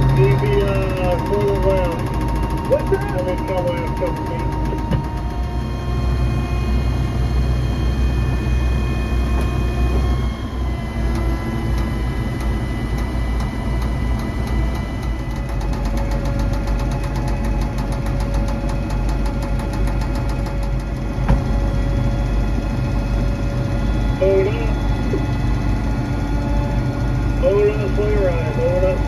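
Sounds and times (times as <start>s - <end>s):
crane diesel engine hum: 0.0s - 29.0s.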